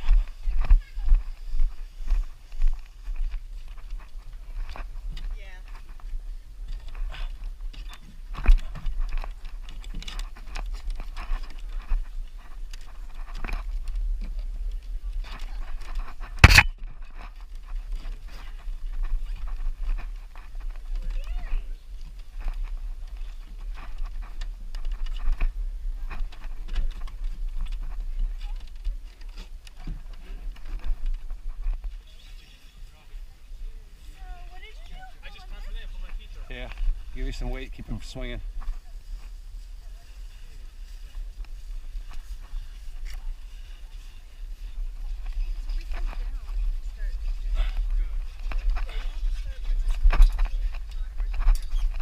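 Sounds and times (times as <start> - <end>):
crunching footsteps on snow: 0.0 - 33.2, 34.0 - 52.0.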